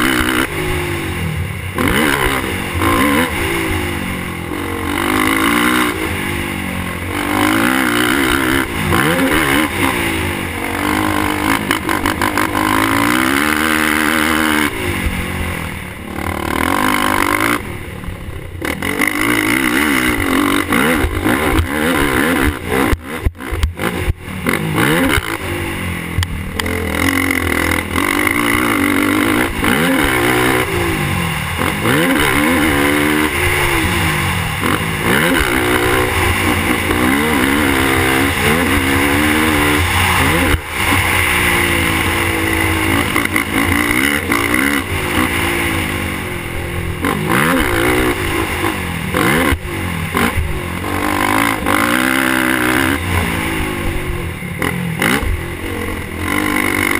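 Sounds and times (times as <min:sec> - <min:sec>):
quad engine revving: 0:00.0 - 0:56.9.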